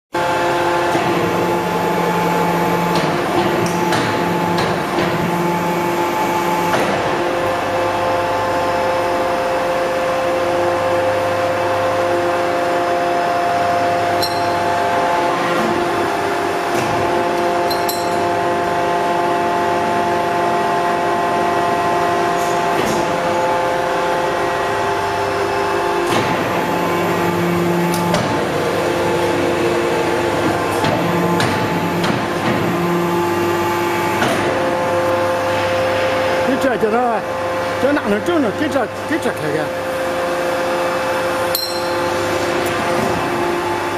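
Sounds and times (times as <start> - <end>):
press machine humming: 0.2 - 43.9.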